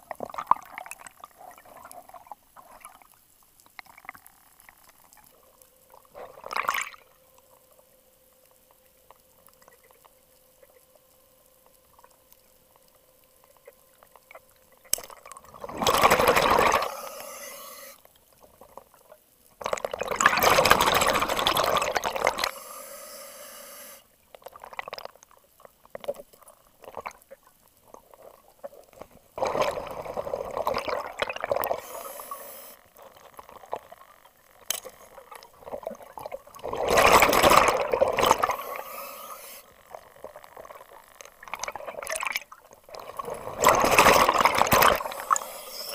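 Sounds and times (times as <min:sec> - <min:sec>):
underwater exhaled bubbles: 0:00.0 - 0:07.1, 0:13.4 - 0:22.7, 0:24.3 - 0:45.9.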